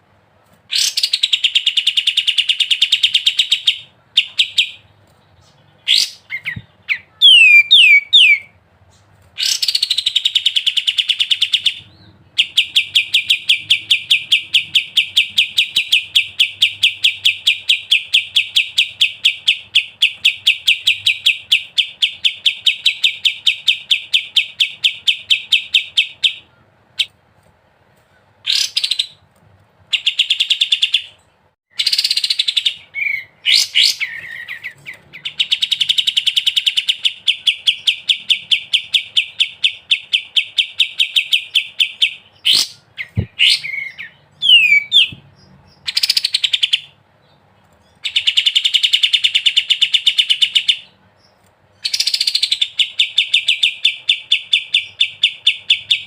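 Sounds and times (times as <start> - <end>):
songbird singing: 0.7 - 27.2, 29.9 - 56.0.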